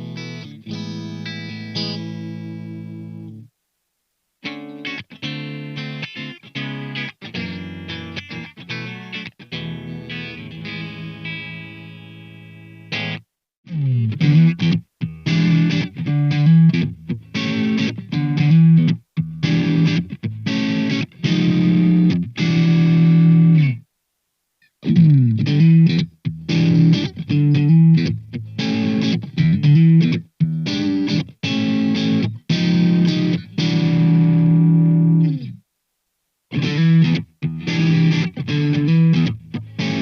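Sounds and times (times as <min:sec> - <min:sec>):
distorted electric guitar chords: 0:00.0 - 0:03.5, 0:04.4 - 0:23.8, 0:24.7 - 0:35.6, 0:36.5 - 0:40.0.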